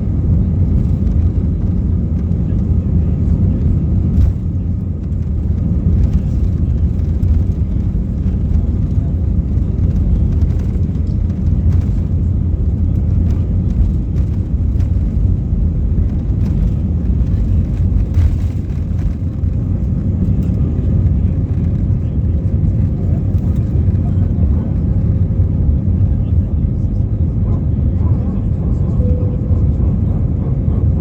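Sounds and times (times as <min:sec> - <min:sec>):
airplane engine rumble in cabin: 0:00.0 - 0:31.0.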